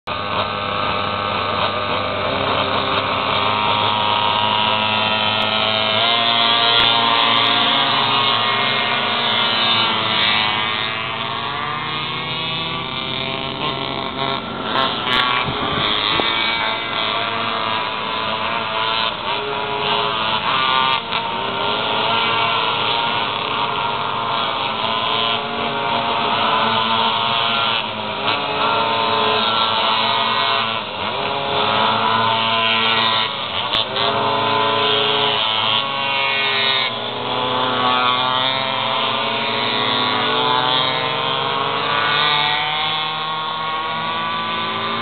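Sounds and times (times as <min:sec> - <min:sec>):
small two-stroke engines revving: 0:00.0 - 0:45.0.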